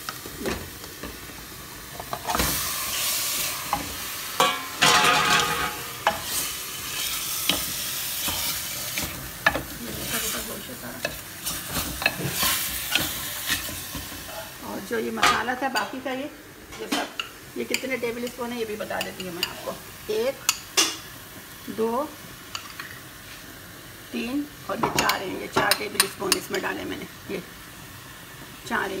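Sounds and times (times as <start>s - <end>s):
meat sizzling in hot oil: 0.0s - 29.0s.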